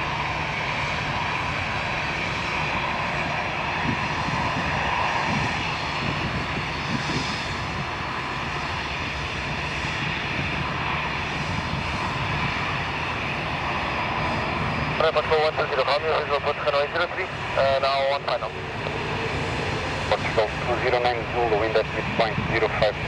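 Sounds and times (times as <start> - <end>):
airliner engines running: 0.0 - 23.0.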